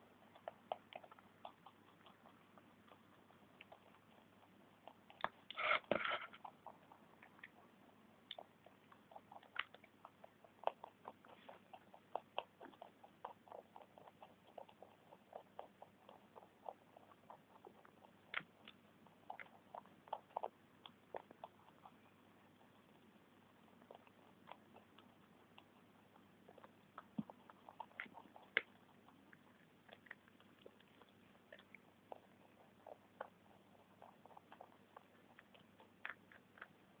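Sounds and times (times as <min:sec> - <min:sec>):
rabbits crunching broccoli: 0:00.0 - 0:37.0.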